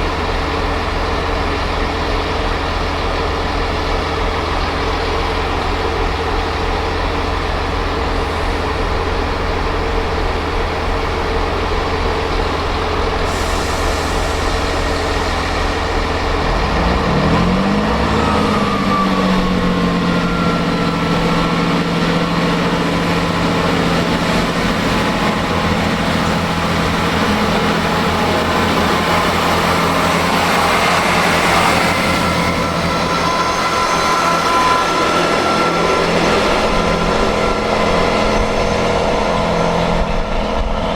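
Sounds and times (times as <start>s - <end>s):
diesel train engine revving: 0.0s - 40.9s.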